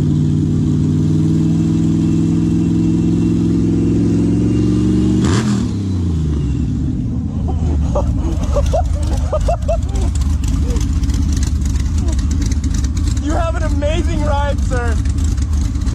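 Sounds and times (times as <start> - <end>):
motorcycle engine running hard: 0.0 - 15.9.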